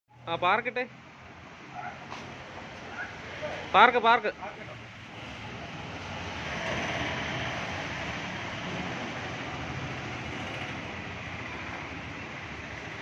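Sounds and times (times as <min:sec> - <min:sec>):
passing road traffic: 0:00.1 - 0:13.0.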